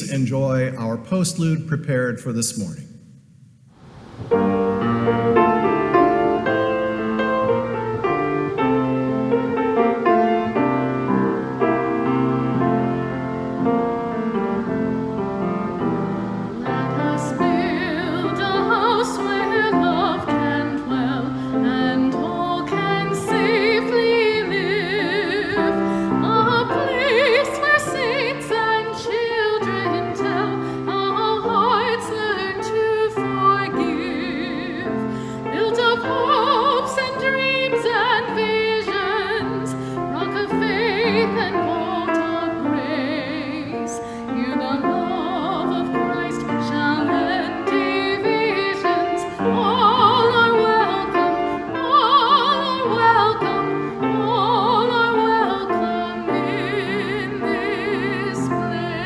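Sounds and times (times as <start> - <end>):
instrumental accompaniment: 3.8 - 59.0
woman singing operatic hymn: 4.3 - 59.0.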